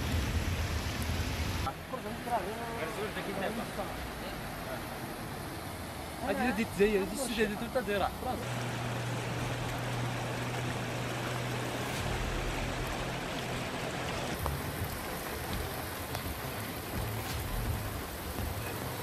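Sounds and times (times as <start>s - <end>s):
rushing river water: 0.0s - 19.0s
steady hiss: 0.0s - 19.0s.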